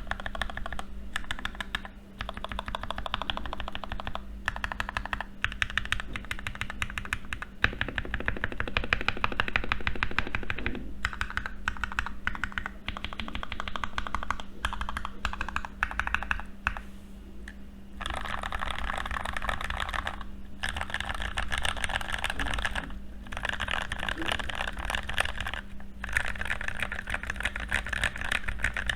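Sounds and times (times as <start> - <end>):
fast typing on mechanical keyboard: 0.0 - 16.8, 18.0 - 28.9.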